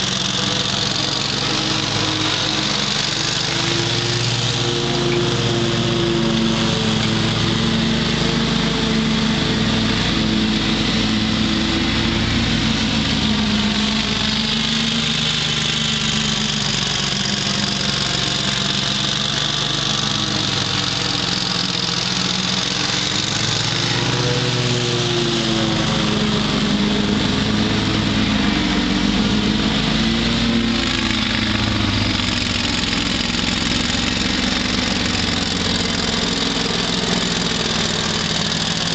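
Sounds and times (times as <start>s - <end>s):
mower engine running: 0.0s - 38.9s.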